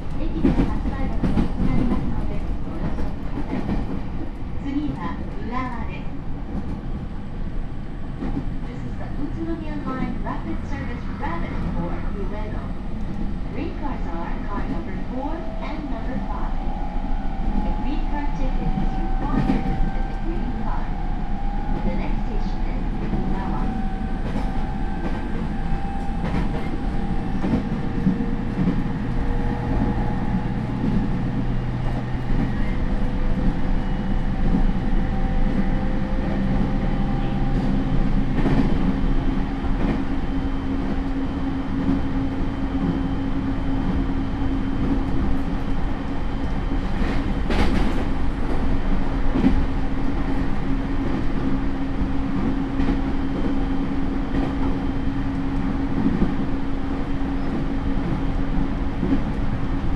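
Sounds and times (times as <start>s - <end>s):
wheel and rail rumble: 0.0s - 59.9s.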